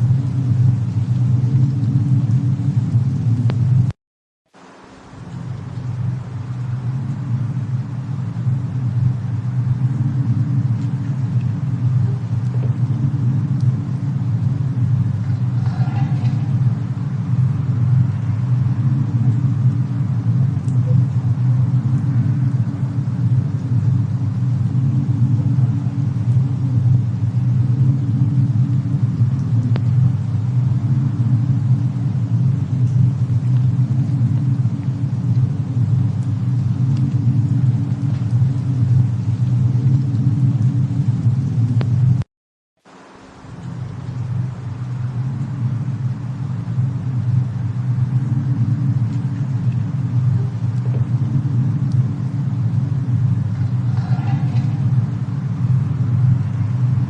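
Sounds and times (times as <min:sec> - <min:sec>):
low rumble: 0:00.0 - 0:04.0, 0:04.6 - 0:42.3, 0:43.3 - 0:57.0
faint fire crackles: 0:00.0 - 0:57.0.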